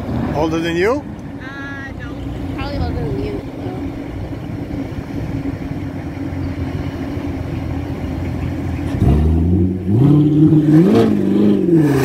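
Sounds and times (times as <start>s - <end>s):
car engines rumbling past: 0.0s - 12.0s
car revving and accelerating: 2.1s - 12.0s.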